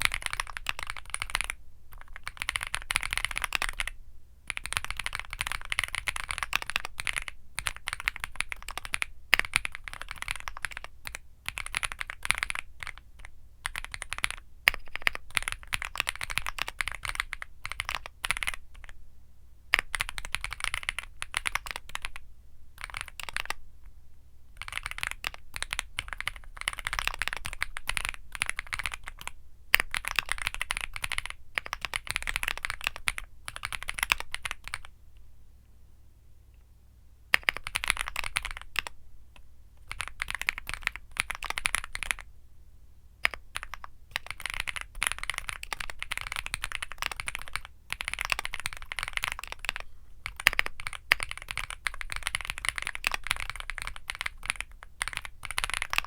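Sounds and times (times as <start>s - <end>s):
mechanical keyboard typing: 0.0s - 19.0s, 19.7s - 22.2s, 22.8s - 23.6s, 24.6s - 34.9s, 37.3s - 39.0s, 39.8s - 42.3s, 43.2s - 56.0s.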